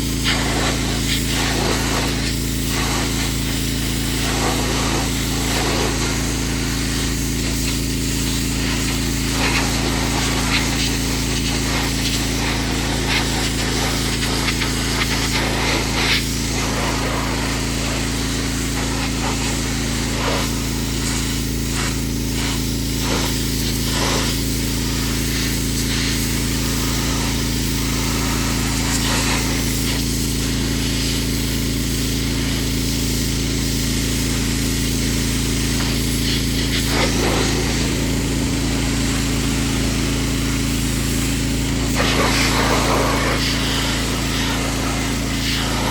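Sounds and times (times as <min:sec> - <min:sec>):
pressure washer motor hum: 0:00.0 - 0:45.9
water jet hissing: 0:00.0 - 0:45.9.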